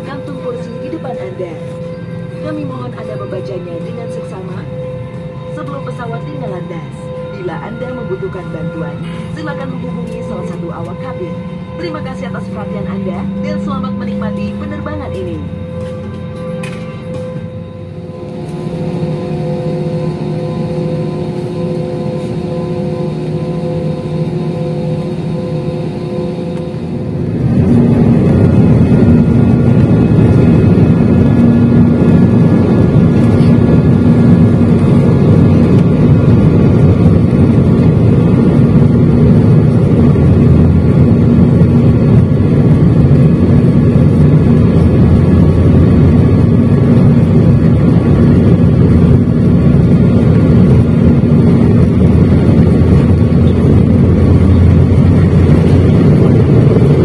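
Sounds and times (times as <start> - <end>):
jet engines roaring: 0.0 - 57.0
steady cabin hum: 0.0 - 57.0.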